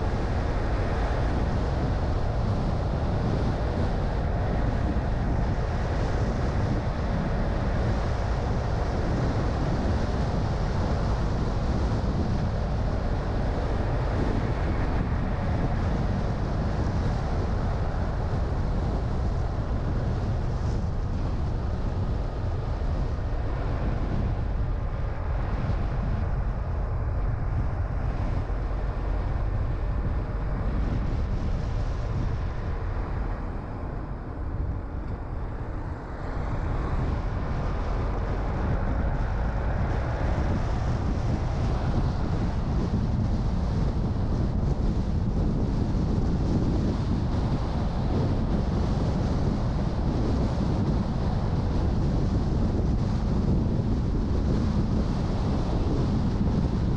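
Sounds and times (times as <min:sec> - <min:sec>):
road and tyre noise: 0:00.0 - 0:56.9
wind noise: 0:00.0 - 0:56.9.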